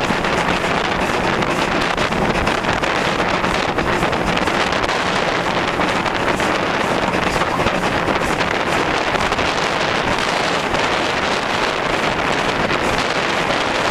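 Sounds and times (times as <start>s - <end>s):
steam locomotive running: 0.0s - 13.9s
wind buffeting microphone: 0.0s - 13.9s.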